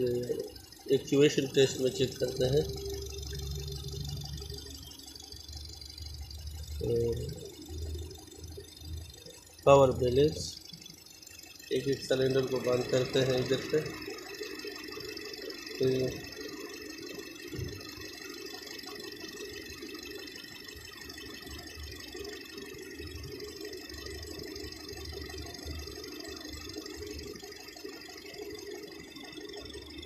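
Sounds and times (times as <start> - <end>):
car engine idling with misfire: 0.0 - 30.0.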